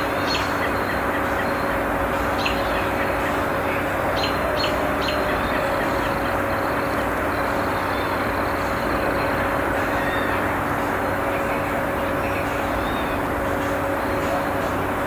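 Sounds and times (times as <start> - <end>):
city background hum: 0.0 - 15.0.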